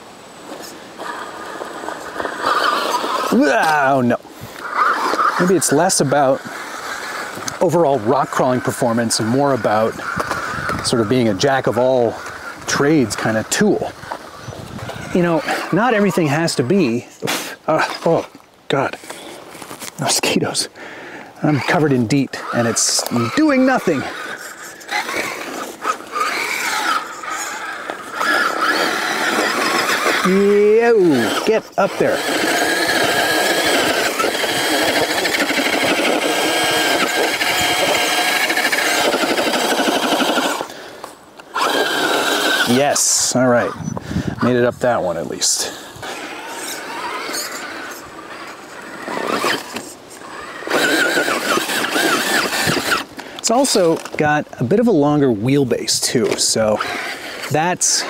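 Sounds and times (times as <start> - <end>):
electric motor and gears whining: 0.0 - 17.0, 21.4 - 58.0.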